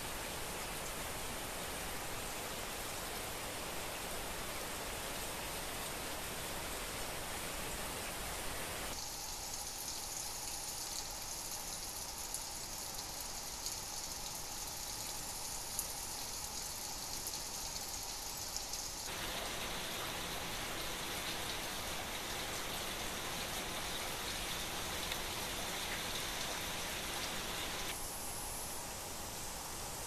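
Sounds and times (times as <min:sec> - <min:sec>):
outdoor ambient hiss: 0:00.0 - 0:30.0.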